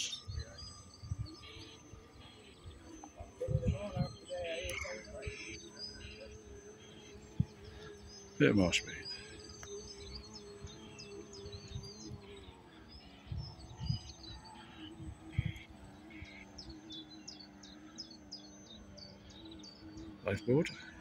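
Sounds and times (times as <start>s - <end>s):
model boat electric motor whine: 0.0s - 21.0s
small birds chirping: 0.0s - 21.0s.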